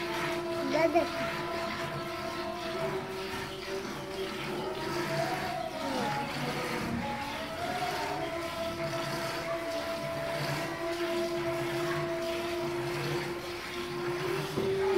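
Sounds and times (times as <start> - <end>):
milk squirting into bucket: 0.0 - 14.9
motor-like hum: 0.0 - 14.9.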